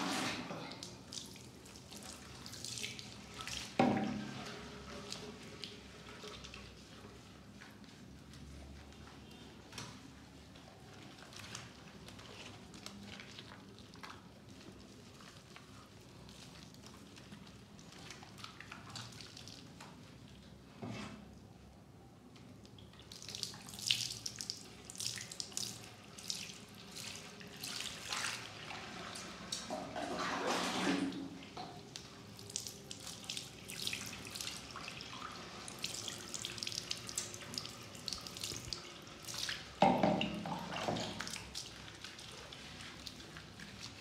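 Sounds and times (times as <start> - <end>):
water splashing and dripping: 0.7 - 20.5, 22.4 - 44.0.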